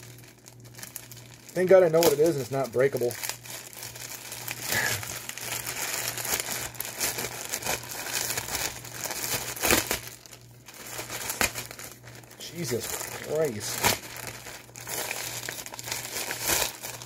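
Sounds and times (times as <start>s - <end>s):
plastic bag crinkling: 0.0s - 17.0s
steady low hum: 0.0s - 17.0s.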